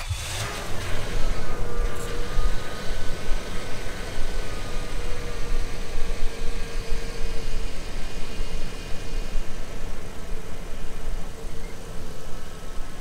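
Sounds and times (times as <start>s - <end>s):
engine idling: 0.0s - 13.0s
steady whine: 0.0s - 13.0s.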